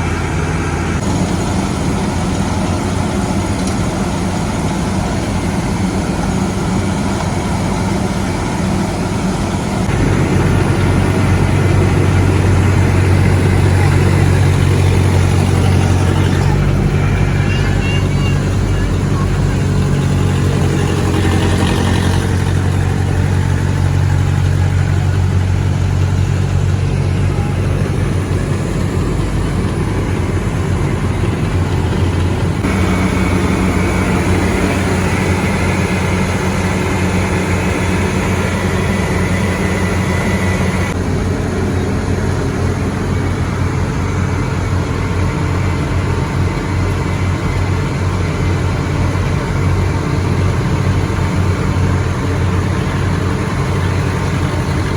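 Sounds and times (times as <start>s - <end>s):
heavy machinery diesel engines: 0.0s - 54.9s.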